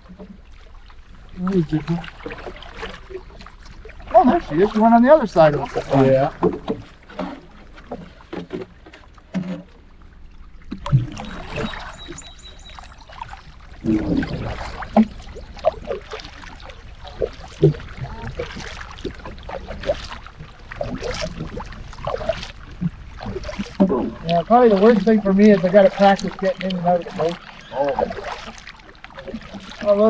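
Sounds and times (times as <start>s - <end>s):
water splashing off paddle: 0.0s - 30.0s.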